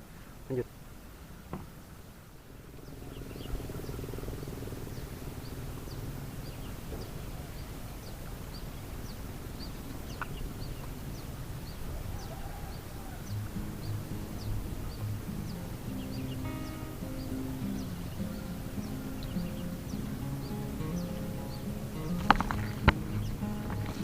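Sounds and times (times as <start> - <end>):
steady low hum: 1.9 - 11.8, 13.2 - 24.0.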